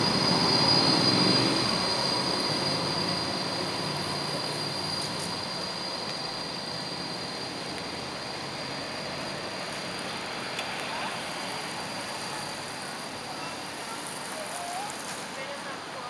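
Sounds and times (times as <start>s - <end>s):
high-pitched whine: 0.0s - 14.2s
traffic rumble: 0.0s - 16.0s
tram running on rails: 0.0s - 16.0s.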